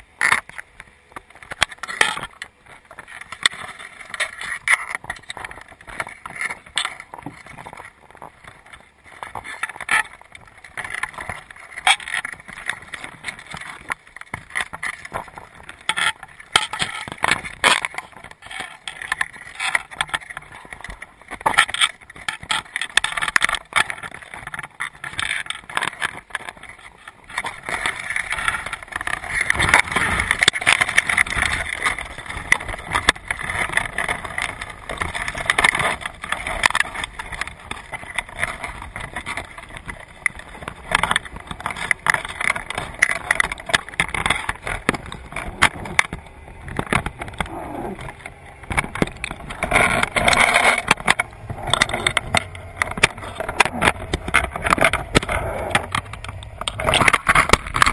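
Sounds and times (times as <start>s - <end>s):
crabs clicking and scraping: 0.0s - 57.9s.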